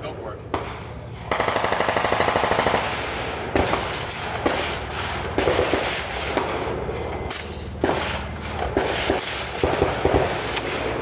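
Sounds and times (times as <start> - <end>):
heavy rifle shots: 0.5 - 11.0
machine-gun fire: 0.6 - 6.8, 7.8 - 11.0.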